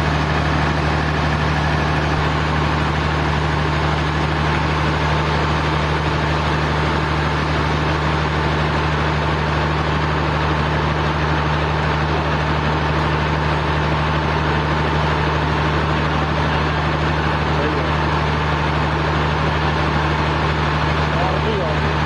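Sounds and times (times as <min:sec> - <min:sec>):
sawmill machinery hum: 0:00.0 - 0:22.0.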